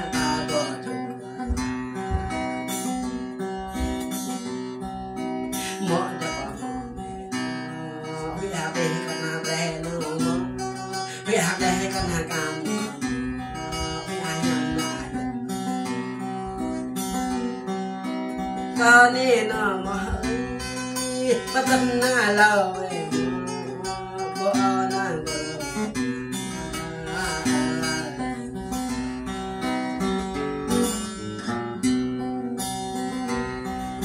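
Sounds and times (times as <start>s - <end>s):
man singing: 0.0s - 4.0s, 5.5s - 29.0s, 30.4s - 34.0s
acoustic guitar strumming: 0.0s - 34.0s.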